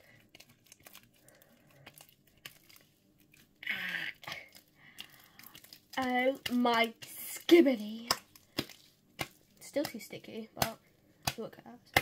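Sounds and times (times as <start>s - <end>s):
sticky slime crackling: 0.0s - 12.0s.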